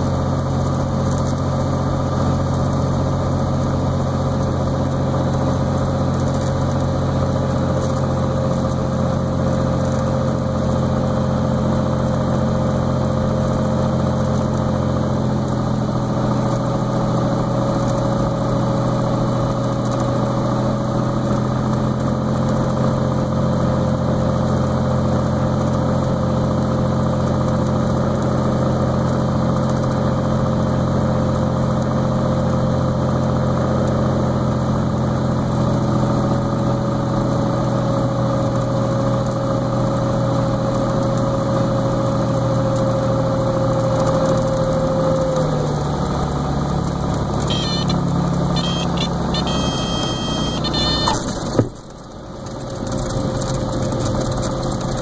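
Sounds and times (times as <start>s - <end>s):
airplane engine and propeller droning: 0.0s - 31.0s, 34.4s - 55.0s.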